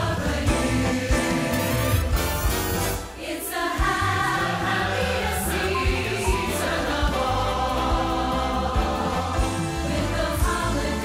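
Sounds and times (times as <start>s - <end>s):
choir singing: 0.0s - 11.0s
orchestral accompaniment: 0.4s - 10.7s.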